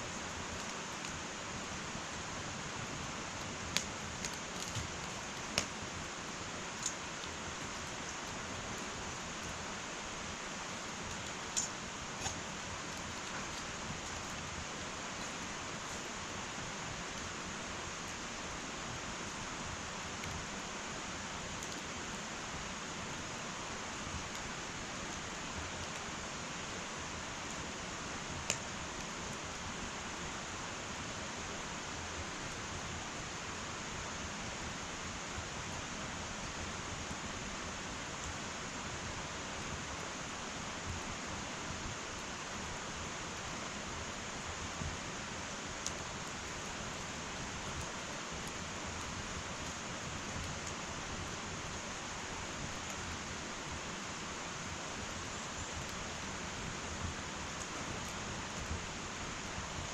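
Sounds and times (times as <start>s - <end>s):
faint fire crackles: 0.0s - 59.9s
soft fire hiss: 0.0s - 59.9s.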